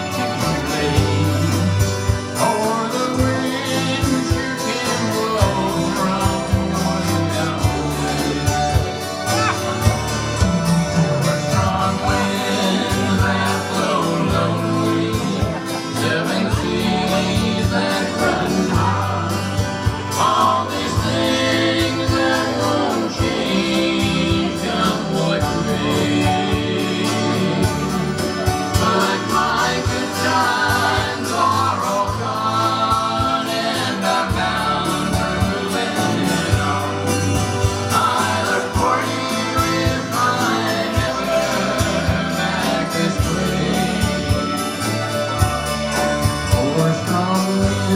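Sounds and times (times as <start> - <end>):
live band playing: 0.0 - 47.9
person singing: 0.0 - 47.9.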